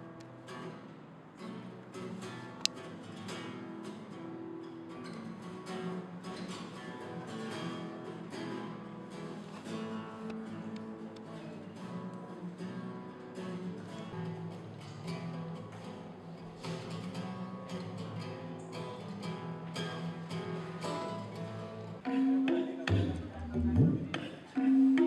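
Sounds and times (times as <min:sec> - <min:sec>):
acoustic guitar strummed and picked: 0:00.0 - 0:25.0.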